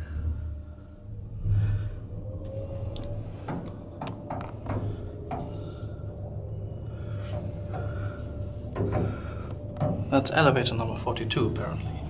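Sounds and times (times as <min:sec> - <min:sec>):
elevator hum: 0:00.0 - 0:12.0.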